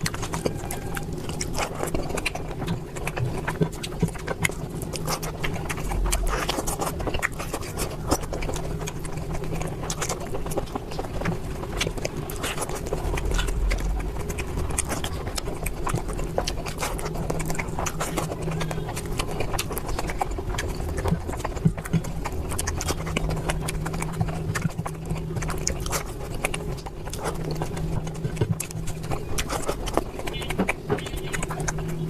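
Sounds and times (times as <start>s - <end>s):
chewing and lip-smacking: 0.0s - 32.0s
steady low hum: 0.0s - 32.0s.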